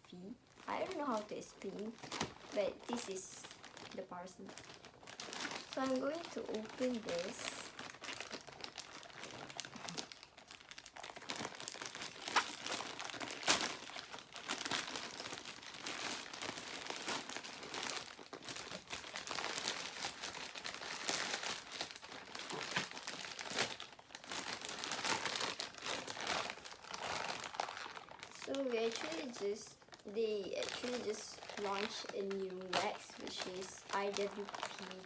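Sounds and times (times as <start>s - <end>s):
packaging crinkling and rustling: 0.1s - 35.0s.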